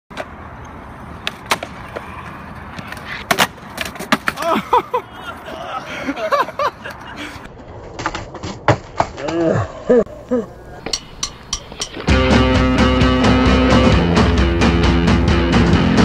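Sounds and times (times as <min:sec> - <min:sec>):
skateboard wheels rolling on concrete: 0:00.1 - 0:16.0.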